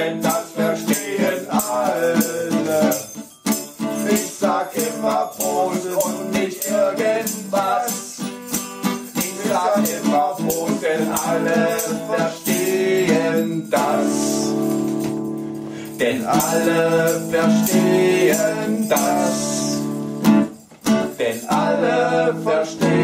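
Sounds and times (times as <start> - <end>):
jingling hand percussion: 0.0 - 23.0
party music with steady beat: 0.0 - 23.0.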